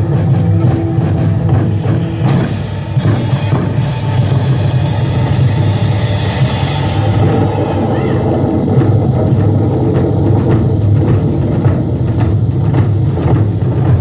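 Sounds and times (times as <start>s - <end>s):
loud rock band music: 0.0s - 12.0s.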